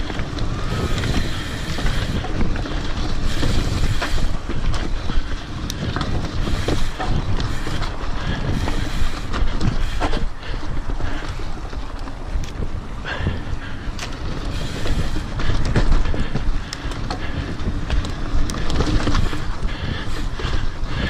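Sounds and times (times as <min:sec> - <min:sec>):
bike rattling clicks and knocks: 0:00.0 - 0:21.0
low rumble of tyres: 0:00.0 - 0:21.0
wind buffeting microphone: 0:00.0 - 0:21.0.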